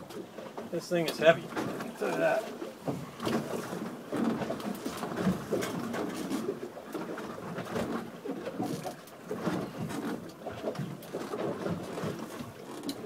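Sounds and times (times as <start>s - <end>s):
knocks and rustles: 0.1s - 13.0s.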